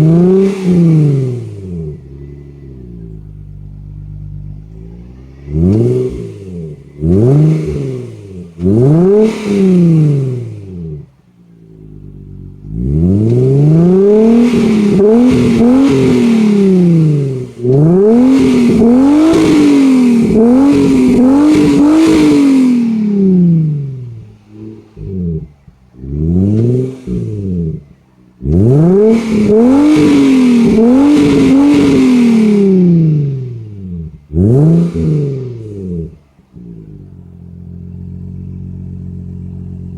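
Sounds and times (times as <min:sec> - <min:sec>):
car engine idling: 0:00.0 - 0:39.9
car engine revving: 0:00.0 - 0:39.9.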